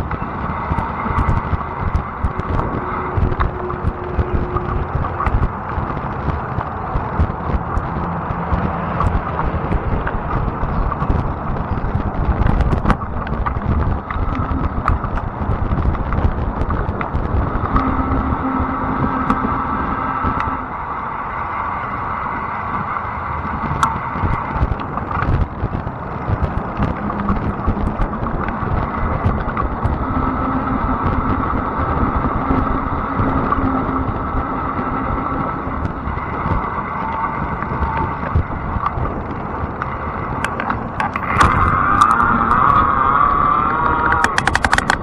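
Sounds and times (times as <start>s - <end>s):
small clicks from bumps: 0.0s - 20.7s, 22.7s - 45.0s
electric bike motor whine: 0.0s - 45.0s
tire rumble on pavement: 0.0s - 45.0s.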